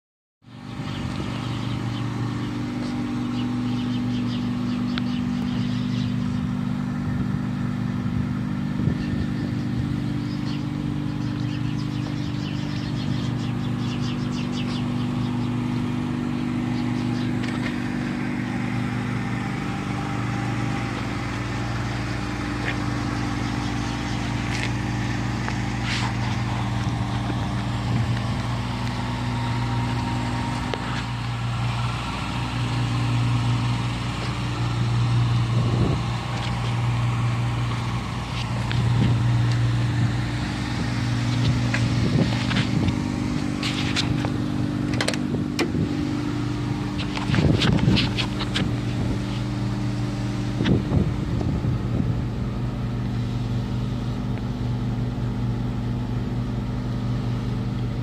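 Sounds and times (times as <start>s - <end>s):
rotary engine idling: 0.5s - 58.0s.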